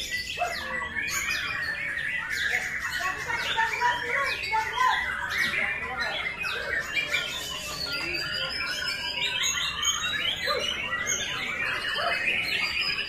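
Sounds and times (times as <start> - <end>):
songbird whistling and chirping: 0.0 - 13.0.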